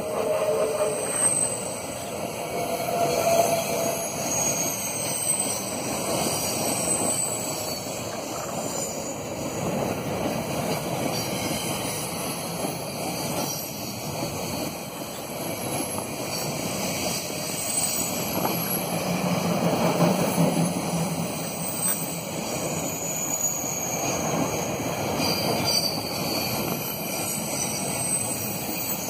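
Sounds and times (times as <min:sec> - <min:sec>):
train wheels rolling on rails: 0:00.0 - 0:29.0.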